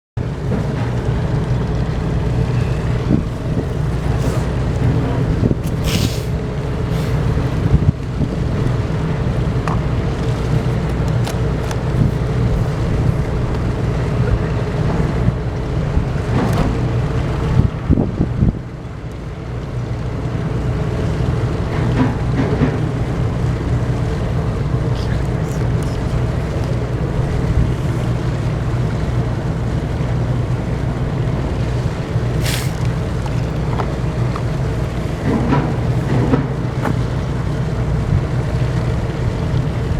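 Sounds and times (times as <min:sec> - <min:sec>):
wind buffeting microphone: 0:00.2 - 0:18.8, 0:22.9 - 0:39.9
ship diesel engines droning: 0:00.2 - 0:39.9.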